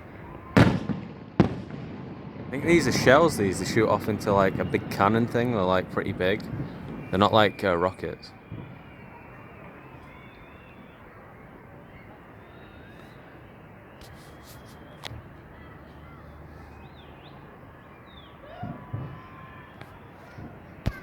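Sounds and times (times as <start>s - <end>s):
distant fireworks bursting: 0.0s - 15.6s, 18.6s - 21.0s
city background noise: 0.0s - 21.0s.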